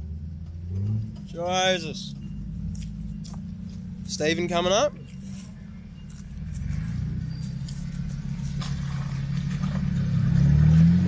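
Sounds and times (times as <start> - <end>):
vehicle engine under load: 0.0 - 11.0.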